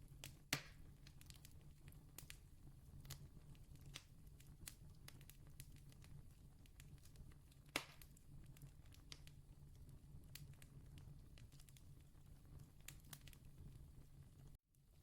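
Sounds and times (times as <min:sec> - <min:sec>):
campfire crackling: 0:00.2 - 0:14.5.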